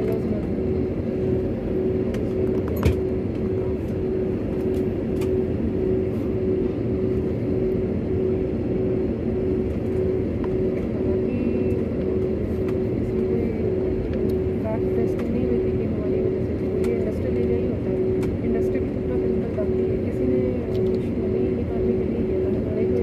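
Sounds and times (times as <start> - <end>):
airliner cabin rumble and hum: 0.0 - 23.0.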